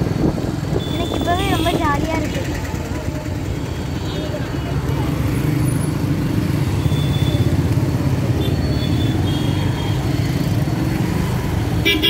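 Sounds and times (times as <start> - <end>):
motorcycle engine and wind rumble: 0.0 - 11.8
vehicles passing by: 0.0 - 12.0.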